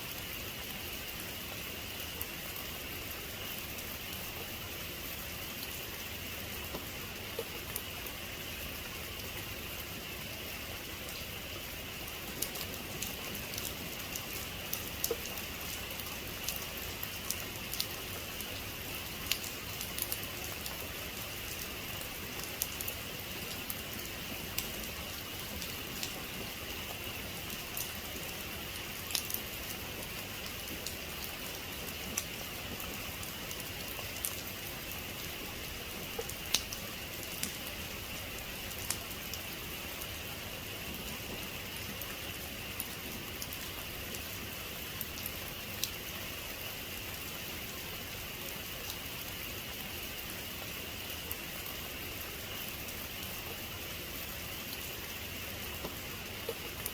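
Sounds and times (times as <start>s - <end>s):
rain hissing: 0.1s - 56.9s.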